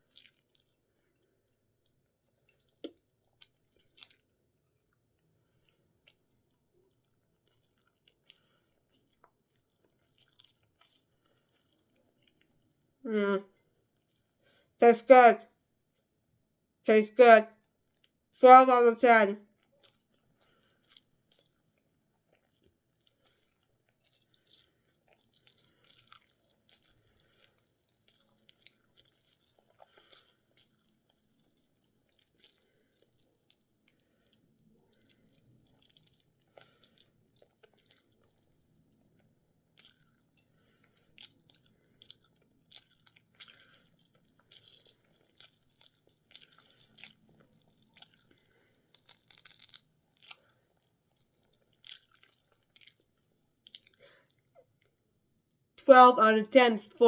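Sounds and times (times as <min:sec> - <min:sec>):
chewing and mouth sounds: 0:00.0 - 0:14.7, 0:17.8 - 0:18.3, 0:19.5 - 0:55.7.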